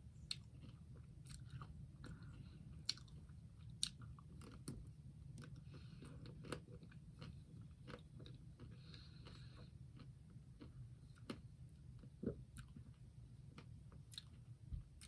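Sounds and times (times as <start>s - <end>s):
faint chewing of ice cream: 0.0s - 15.0s.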